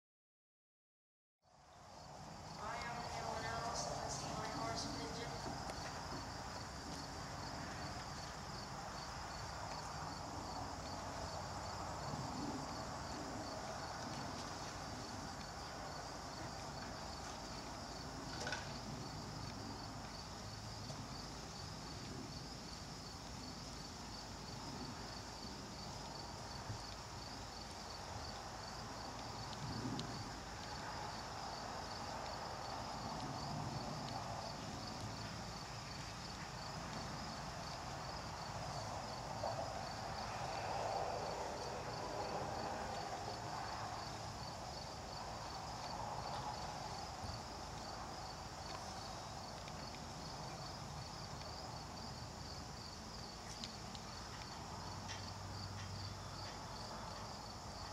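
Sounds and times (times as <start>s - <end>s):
insect chirping: 1.5s - 57.9s.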